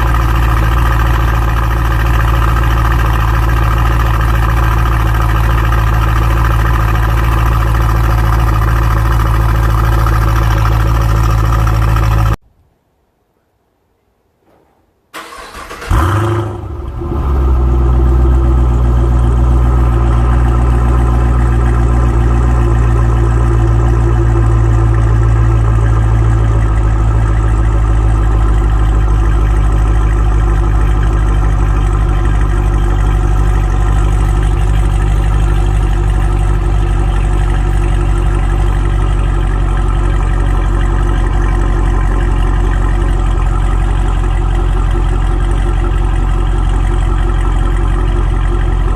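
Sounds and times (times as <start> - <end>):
car engine starting and idling: 0.0 - 12.4, 15.1 - 48.9.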